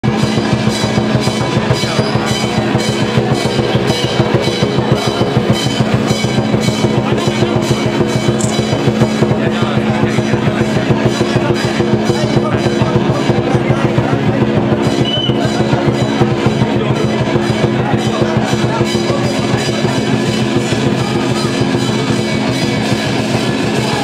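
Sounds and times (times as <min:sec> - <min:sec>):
loud fast drumming: 0:00.0 - 0:24.0.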